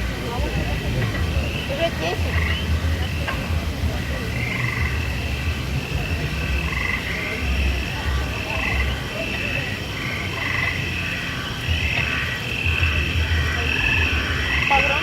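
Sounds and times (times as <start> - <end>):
frog-like croaking calls: 0.0 - 15.0
steady low rumble: 0.0 - 15.0.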